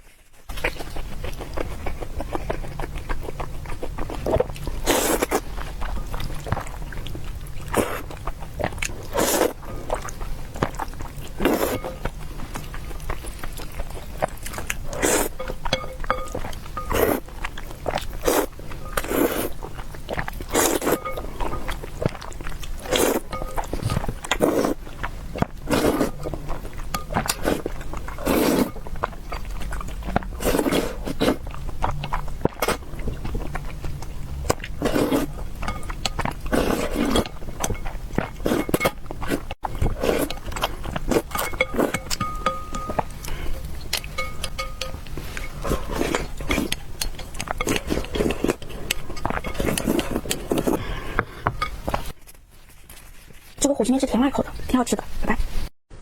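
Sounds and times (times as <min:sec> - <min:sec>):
low steady hum: 0:00.0 - 0:56.0
person chewing and biting: 0:00.1 - 0:52.2.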